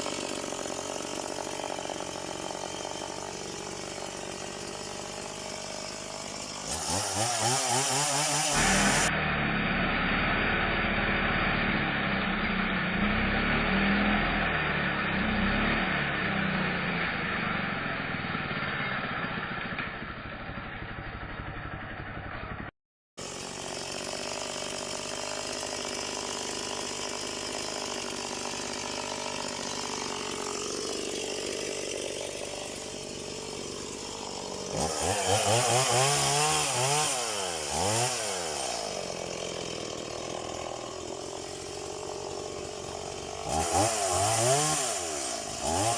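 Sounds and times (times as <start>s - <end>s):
chainsaw running and revving: 0.0s - 20.8s, 23.2s - 45.9s.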